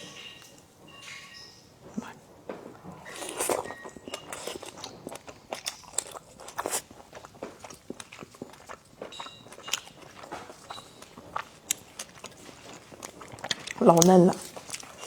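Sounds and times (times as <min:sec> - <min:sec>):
wet chewing clicks and smacks: 0:01.9 - 0:15.0
biting and chewing clam: 0:02.7 - 0:15.0.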